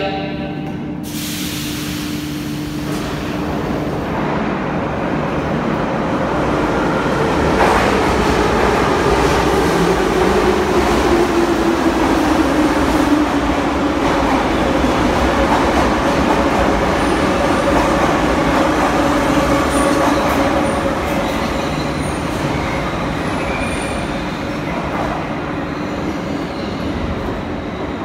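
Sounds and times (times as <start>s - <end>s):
metro train pulling away: 0.0s - 28.0s.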